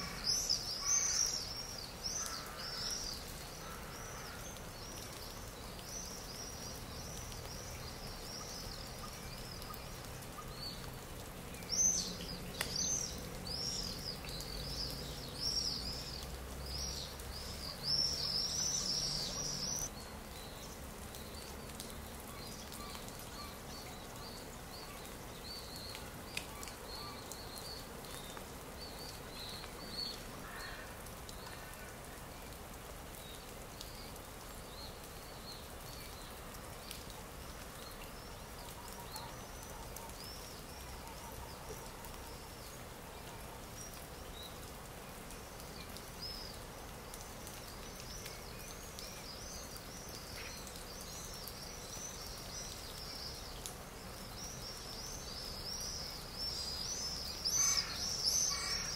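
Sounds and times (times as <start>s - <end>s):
small birds chirping: 0.0s - 58.9s
steady background hiss: 0.0s - 58.9s.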